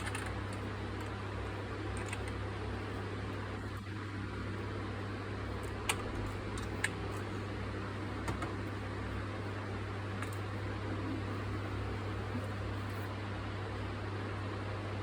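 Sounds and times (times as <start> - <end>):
room fan humming: 0.0 - 15.0.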